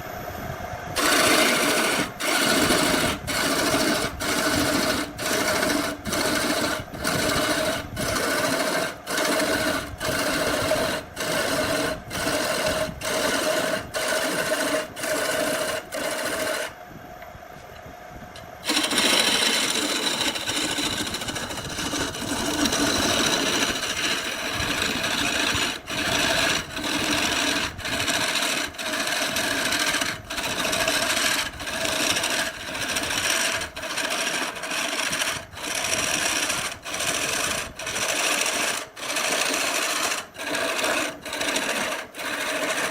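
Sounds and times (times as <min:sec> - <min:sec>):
power tool cutting wood: 0:01.0 - 0:16.8, 0:18.6 - 0:42.9.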